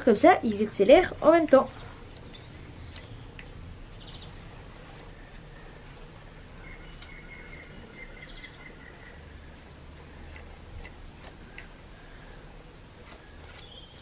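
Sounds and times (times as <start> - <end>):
birdsong trill and chirps: 0.0 - 14.0
low steady hum: 0.0 - 14.0.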